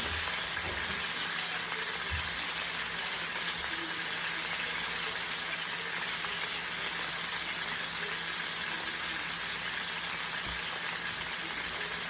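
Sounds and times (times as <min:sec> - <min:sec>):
steaks sizzling in a pan: 0:00.0 - 0:12.0.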